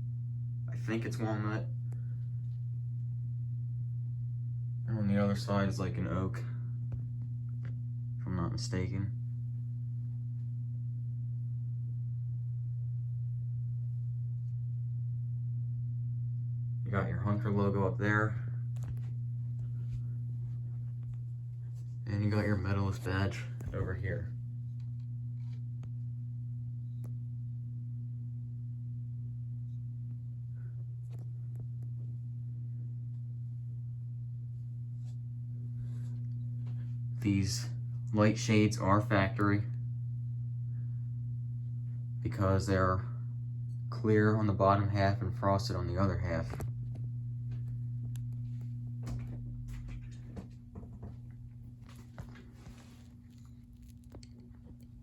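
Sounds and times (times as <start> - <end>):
ceiling fan motor hum: 0.0 - 55.0.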